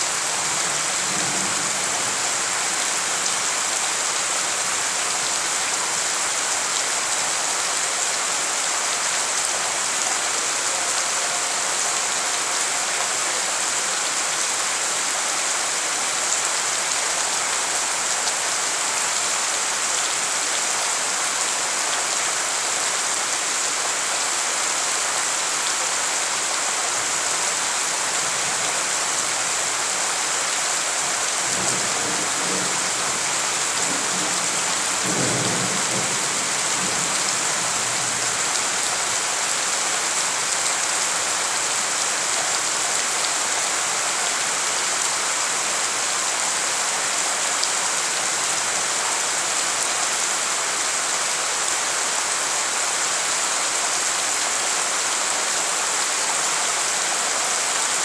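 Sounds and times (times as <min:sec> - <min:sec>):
rain splashing into water: 0:00.0 - 0:58.0.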